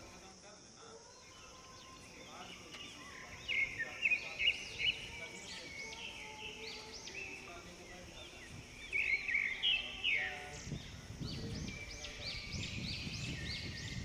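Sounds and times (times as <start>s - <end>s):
leaves rustling: 0.0s - 14.0s
small birds chirping: 0.0s - 14.0s.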